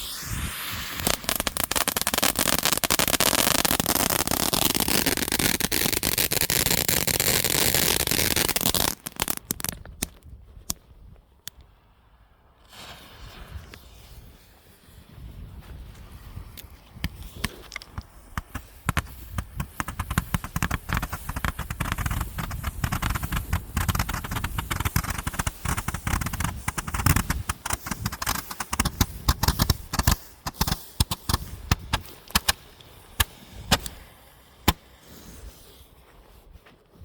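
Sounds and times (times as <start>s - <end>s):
firework cake crackles and bangs: 0.0s - 10.3s, 12.7s - 15.0s, 16.7s - 34.0s.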